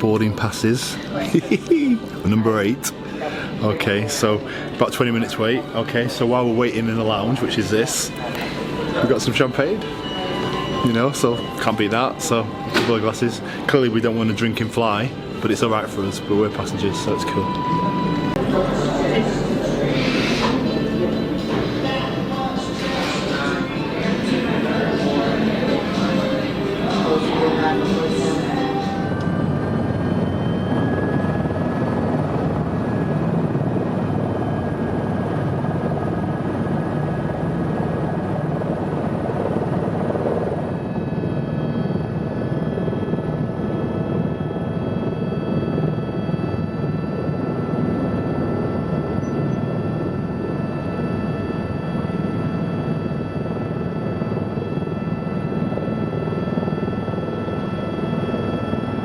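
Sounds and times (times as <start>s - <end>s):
high whining tones: 0.0s - 37.8s, 40.3s - 59.0s
helicopter rotor and engine rumble: 0.0s - 59.0s.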